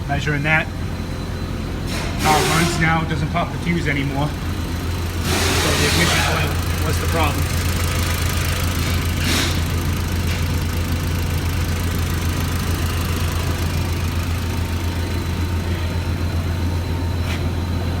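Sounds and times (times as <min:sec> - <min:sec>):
car engine idling: 0:03.2 - 0:18.0.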